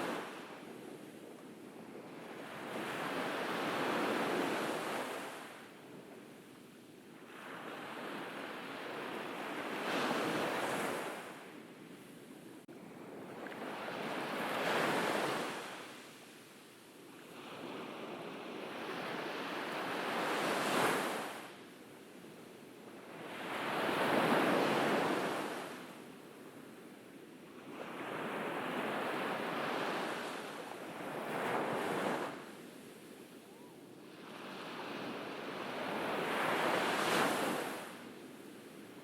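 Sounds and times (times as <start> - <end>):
ocean waves breaking on beach: 0.0 - 6.0, 7.2 - 22.3, 22.9 - 26.1, 27.5 - 39.0.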